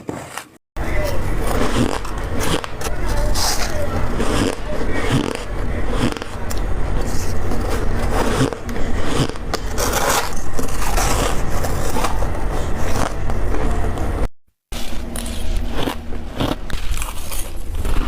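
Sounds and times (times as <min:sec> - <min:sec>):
ice crunching being chewed: 0:00.8 - 0:13.4, 0:14.8 - 0:18.0
steady low hum: 0:00.8 - 0:18.0.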